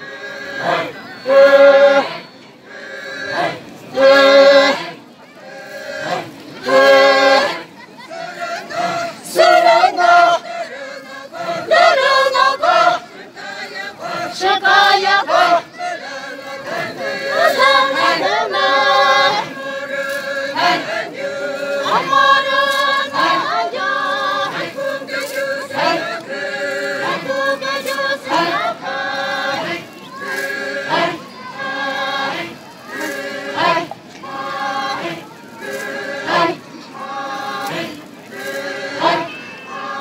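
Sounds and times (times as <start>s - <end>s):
women singing together: 0.0s - 40.0s.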